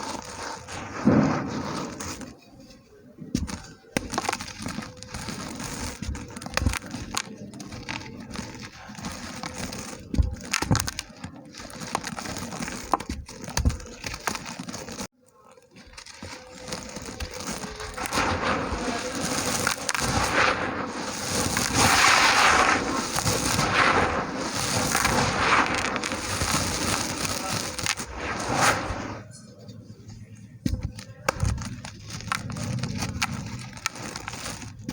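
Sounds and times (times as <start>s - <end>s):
dry dirt cracking and crumbling: 0.0s - 34.9s.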